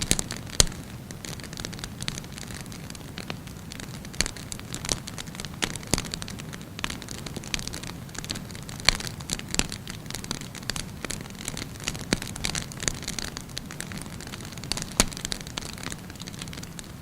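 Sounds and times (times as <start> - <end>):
low hiss: 0.0 - 17.0
wood fire crackling and popping: 0.0 - 17.0.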